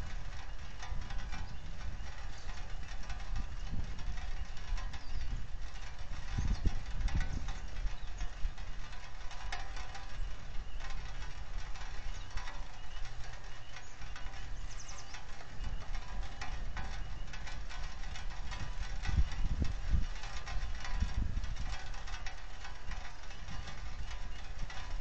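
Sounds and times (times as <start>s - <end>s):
rain ticking on a camera housing: 0.0s - 25.0s
wind rumble on microphone: 0.0s - 25.0s.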